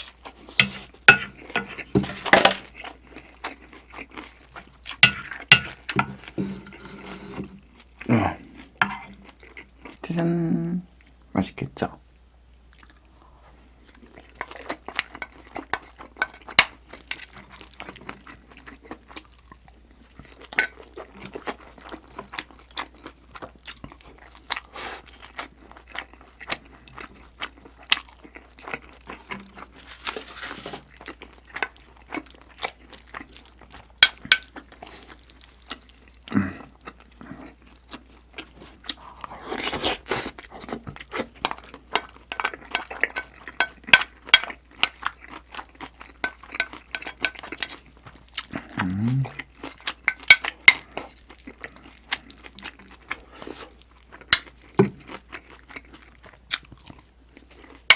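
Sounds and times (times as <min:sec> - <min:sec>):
food chewing and crunching: 0:00.0 - 0:10.4, 0:12.6 - 0:57.9.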